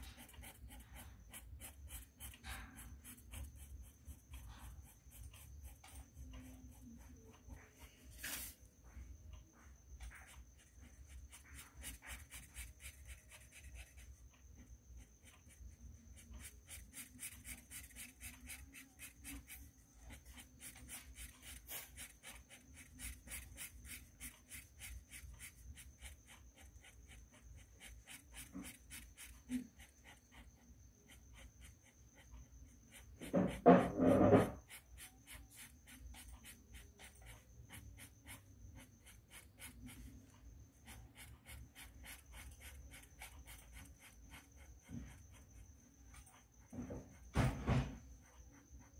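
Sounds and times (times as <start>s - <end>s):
marker scratching on paper: 0.0s - 48.9s.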